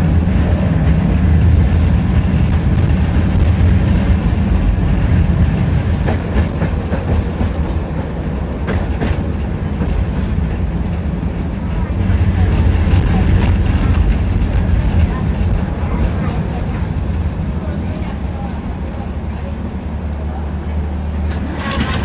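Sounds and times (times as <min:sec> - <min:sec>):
tram wheels rumbling on track: 0:00.0 - 0:22.0
wheels clacking over rail joints: 0:00.0 - 0:22.0.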